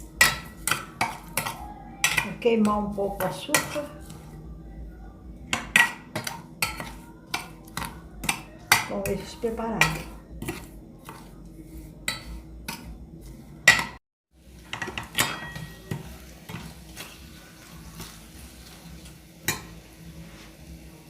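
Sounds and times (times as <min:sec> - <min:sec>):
spoon clinking and scraping pan: 0:00.0 - 0:04.4, 0:05.5 - 0:14.0, 0:14.6 - 0:19.8.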